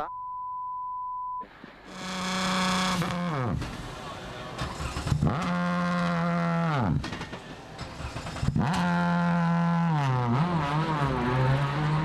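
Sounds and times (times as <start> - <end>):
rally car engine revving: 2.0 - 12.0.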